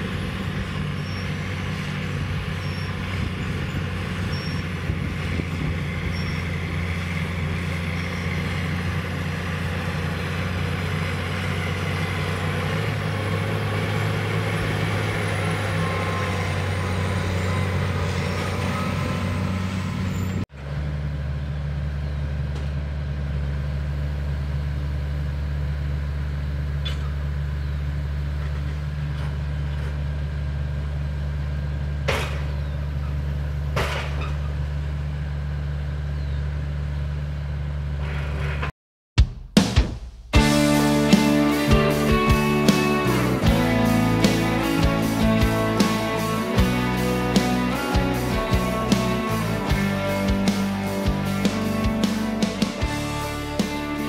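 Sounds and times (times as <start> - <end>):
tractor diesel engine running: 0.0 - 38.7, 40.3 - 54.0.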